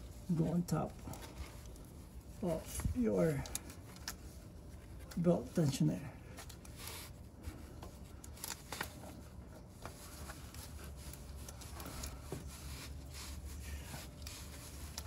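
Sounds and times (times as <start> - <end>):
belt rubbing and scraping: 0.0 - 15.0.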